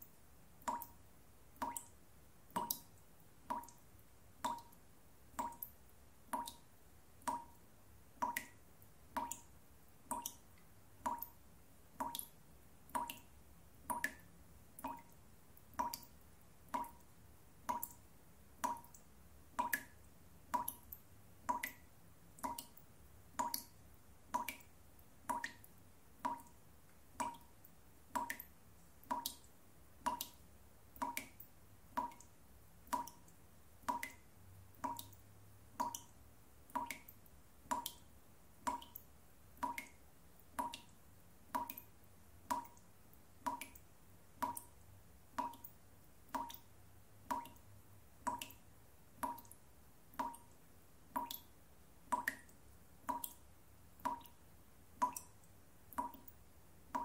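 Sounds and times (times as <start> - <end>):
water drops dripping from tap: 0.6 - 1.0, 1.6 - 3.8, 4.4 - 7.6, 8.2 - 54.4, 55.0 - 57.0.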